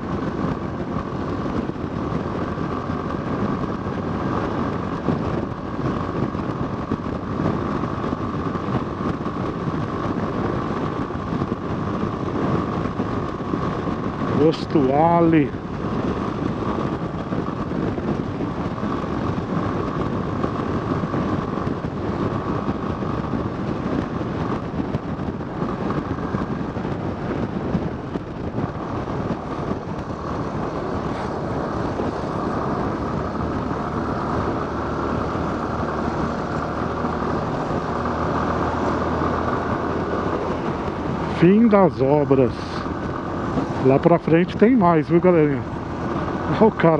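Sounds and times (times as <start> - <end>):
motorcycle engine cruising: 0.0 - 46.9
wind and road noise: 0.0 - 46.9.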